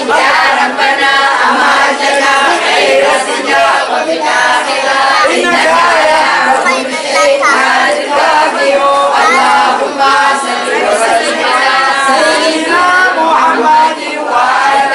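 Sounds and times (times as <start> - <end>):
group of women singing: 0.0 - 14.9.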